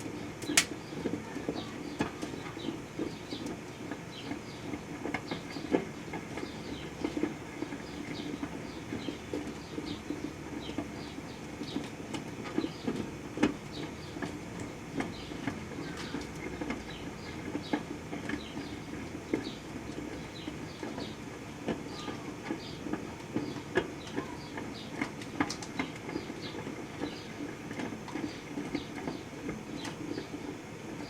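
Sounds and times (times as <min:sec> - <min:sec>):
clicks and small pops: 0:00.0 - 0:30.4
microwave oven humming: 0:00.0 - 0:31.0.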